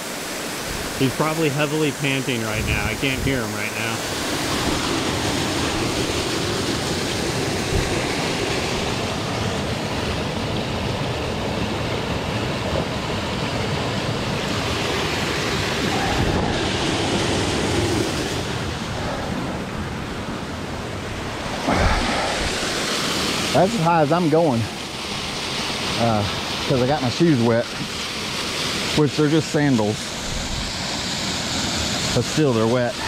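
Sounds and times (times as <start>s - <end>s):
waterfall and creek rushing: 0.0s - 33.0s.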